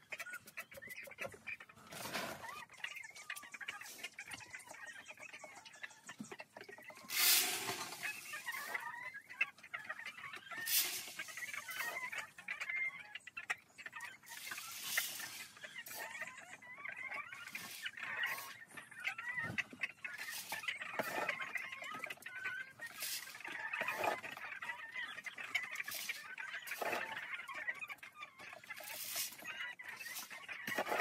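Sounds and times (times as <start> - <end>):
hens clucking: 0.0 - 31.0.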